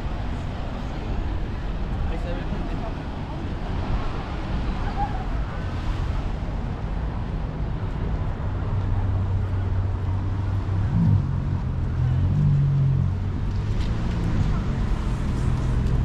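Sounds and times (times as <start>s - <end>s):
low engine hum: 0.0s - 16.0s
rumbling outdoor background: 0.0s - 16.0s.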